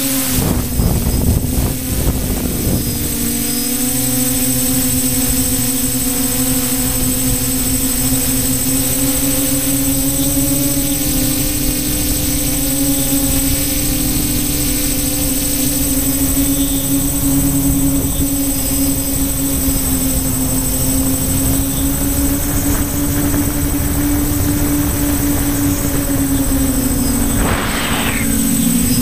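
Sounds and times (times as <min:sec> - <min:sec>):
drone propellers humming: 0:00.0 - 0:29.0
wind on microphone: 0:00.0 - 0:29.0.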